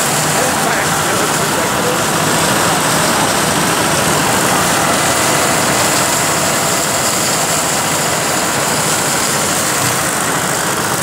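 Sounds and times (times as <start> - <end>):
combine harvester working: 0.0 - 11.0
tractor pulling seed drill: 0.0 - 11.0.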